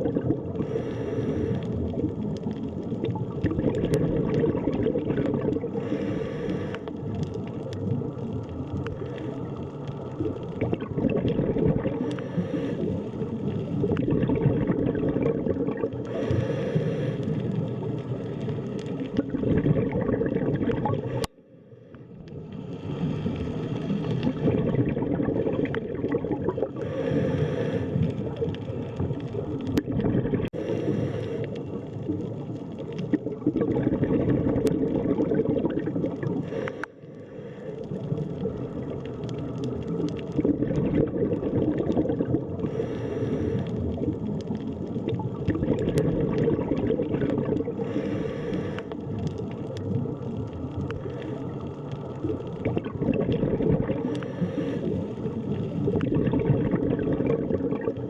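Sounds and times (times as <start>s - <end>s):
water bubbling and gurgling: 0.0s - 58.0s.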